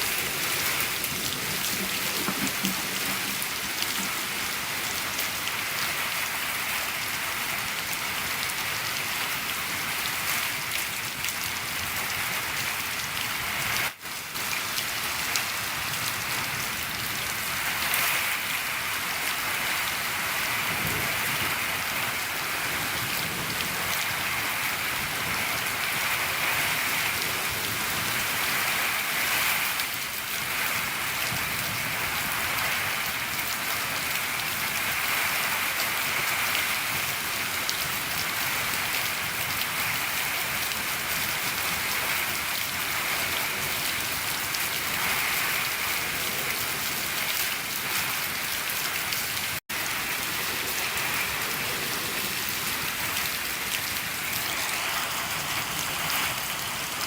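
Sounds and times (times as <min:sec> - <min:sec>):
rain on a shed roof: 0:00.0 - 0:57.0.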